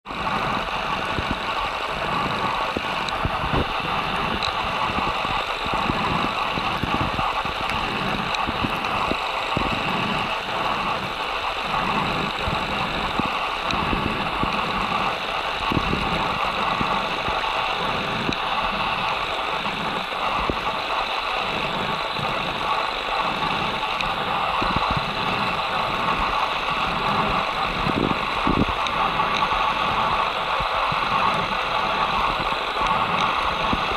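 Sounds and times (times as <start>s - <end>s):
faint crackling ticks: 4.1s - 33.9s.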